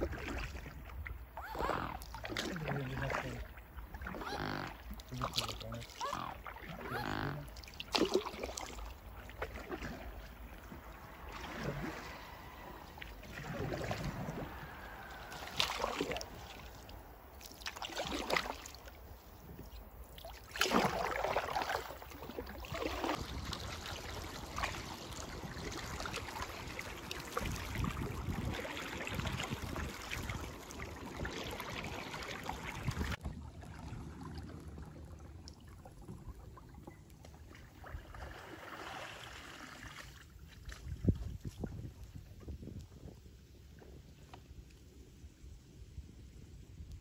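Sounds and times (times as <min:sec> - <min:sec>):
water splashing along a kayak: 0:00.0 - 0:47.0.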